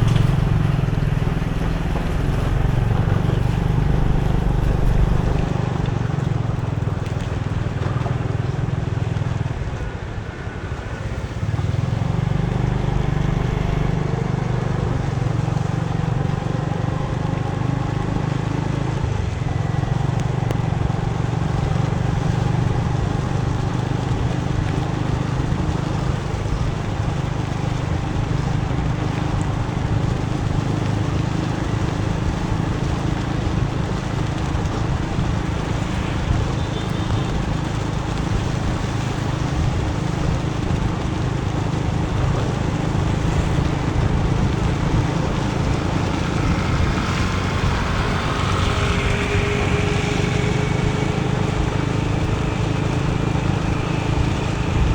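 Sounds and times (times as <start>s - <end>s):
motorbike engine running: 0.0s - 9.8s, 11.2s - 54.9s
road and wind noise: 0.0s - 54.9s.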